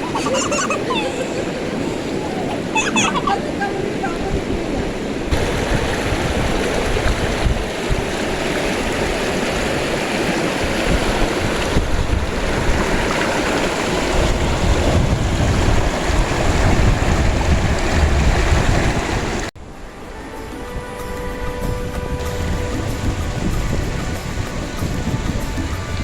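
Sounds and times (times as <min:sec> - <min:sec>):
wind buffeting microphone: 0:00.0 - 0:19.6, 0:20.6 - 0:26.0
stream water rushing: 0:00.0 - 0:26.0.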